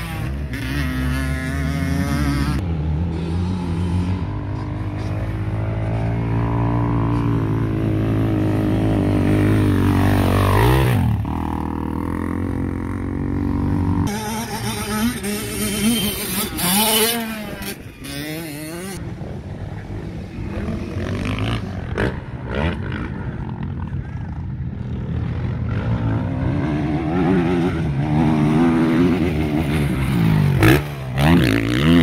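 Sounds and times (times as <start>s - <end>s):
dirt bike revving through gears: 0.0s - 19.1s, 20.4s - 23.9s, 24.8s - 32.0s
dirt bike engine passing: 0.0s - 32.0s.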